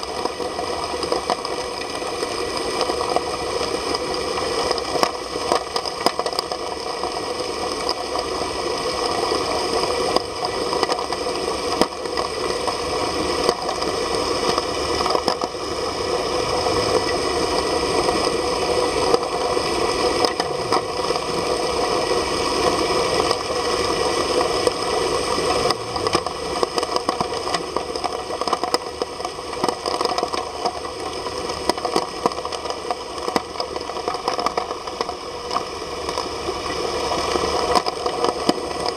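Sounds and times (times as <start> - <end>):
small clicks and crackles: 0.0 - 38.9
underwater pump drone: 0.0 - 38.9.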